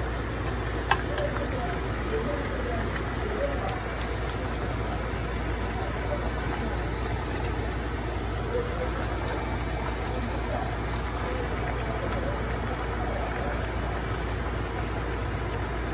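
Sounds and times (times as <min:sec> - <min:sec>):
soup bubbling and hissing: 0:00.0 - 0:15.9.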